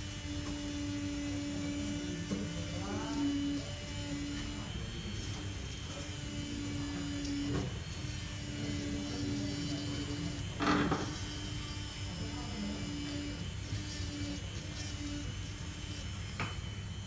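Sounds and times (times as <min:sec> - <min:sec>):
electric grinding pen humming: 0:00.0 - 0:17.0.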